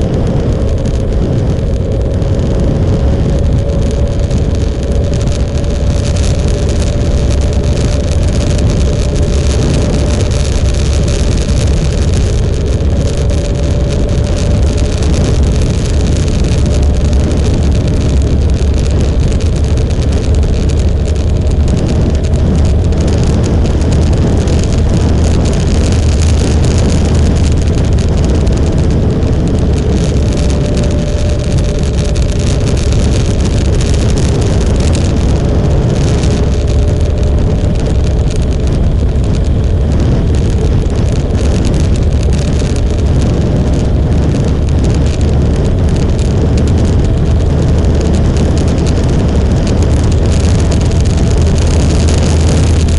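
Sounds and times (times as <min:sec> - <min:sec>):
motorcycle engine drone: 0:00.0 - 0:52.9
road noise: 0:00.0 - 0:52.9.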